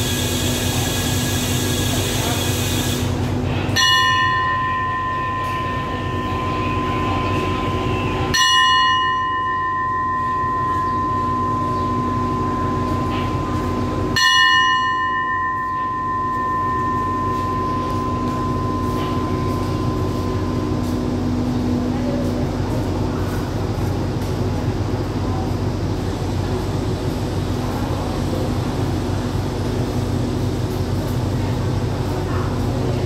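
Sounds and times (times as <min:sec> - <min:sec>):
diesel locomotive idling: 0:00.0 - 0:33.0
station bell ringing: 0:00.0 - 0:33.0.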